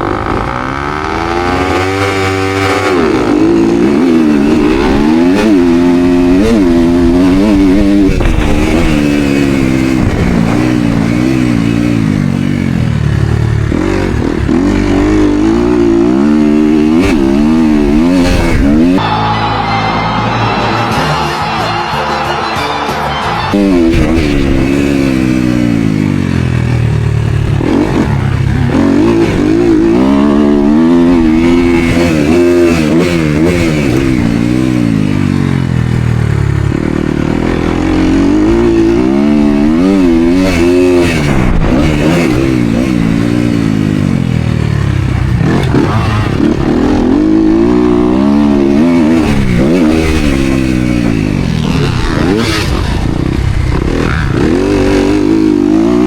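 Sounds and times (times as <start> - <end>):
dirt bike engine revving: 0.0 - 19.3, 23.2 - 56.0.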